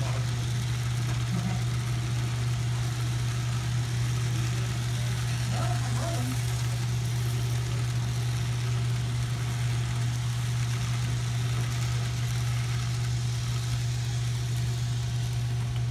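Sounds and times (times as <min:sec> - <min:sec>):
model train rolling on track: 0:00.0 - 0:15.9.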